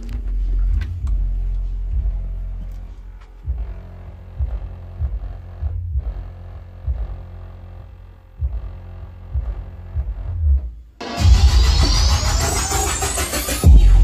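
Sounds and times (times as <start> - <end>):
bass-heavy electronic music: 0.0 - 14.0.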